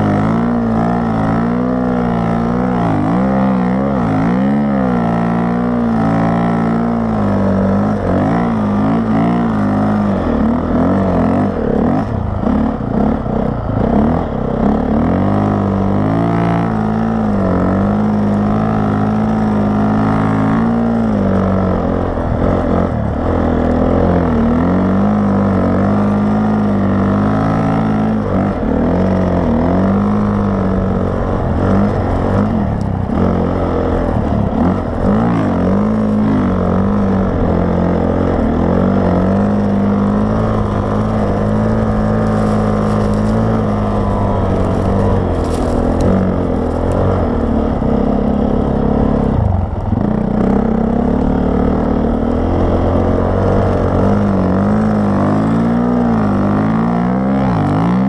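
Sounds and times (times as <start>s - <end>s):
snowbike engine revving: 0.0s - 58.0s.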